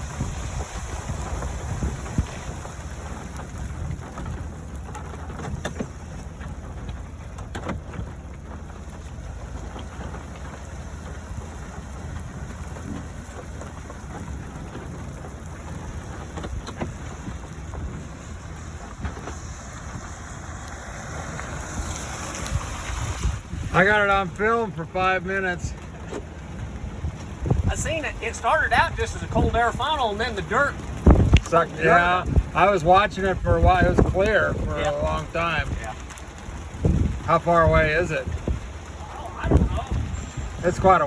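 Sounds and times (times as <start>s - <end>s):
wind buffeting microphone: 0.0s - 24.8s, 25.4s - 41.0s.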